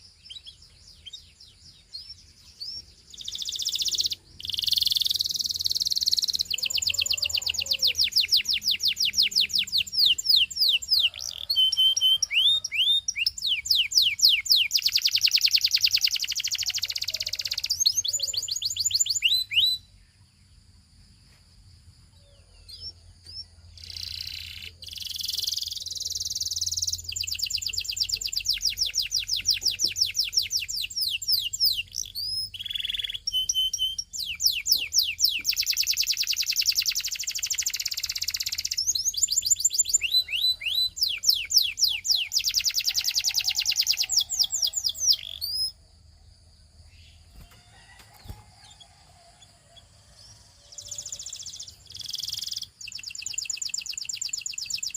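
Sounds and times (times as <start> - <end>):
canary singing trills: 0.0 - 20.3, 22.2 - 54.9.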